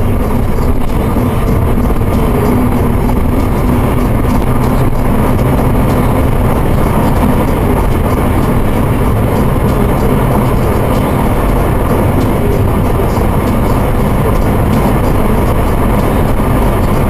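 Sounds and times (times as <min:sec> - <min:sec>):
car engine drone: 0:00.0 - 0:17.0
tyre and road noise: 0:00.0 - 0:17.0.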